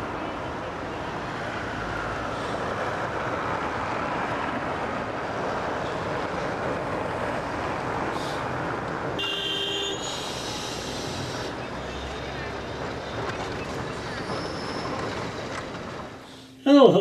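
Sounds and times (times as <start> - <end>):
tram rumbling over cobbles: 0.0 - 9.2, 10.0 - 16.3
street traffic: 0.0 - 17.0.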